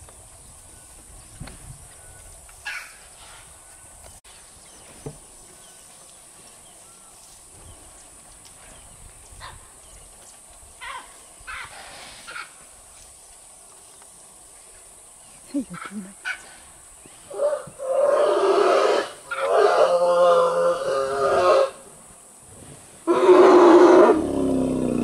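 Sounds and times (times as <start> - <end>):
steady high hiss: 0.0 - 25.0.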